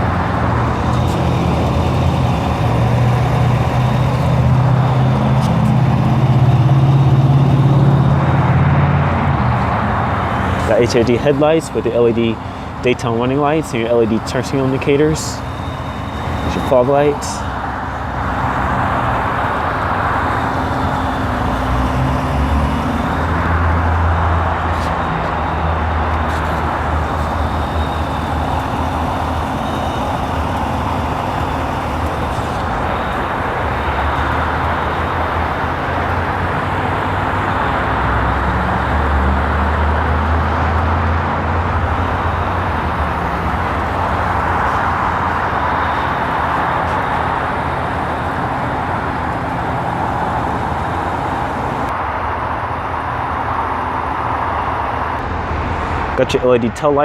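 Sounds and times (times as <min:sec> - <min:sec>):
car engine idling: 0:00.0 - 0:57.0
rushing background noise: 0:00.0 - 0:57.0.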